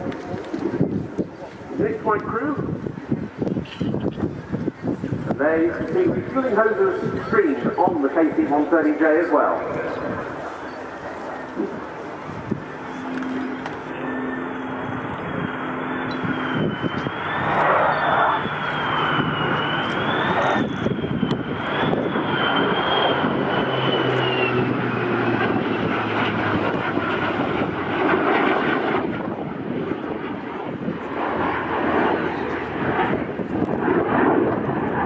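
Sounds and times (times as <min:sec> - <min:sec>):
aircraft engines flying past: 0:00.0 - 0:35.0
high wavering jet whine: 0:00.0 - 0:35.0.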